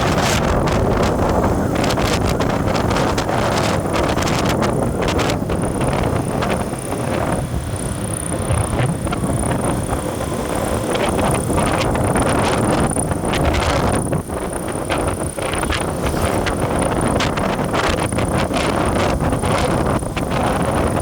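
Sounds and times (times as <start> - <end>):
road and engine rumble: 0.0 - 21.0
wind buffeting microphone: 0.0 - 21.0.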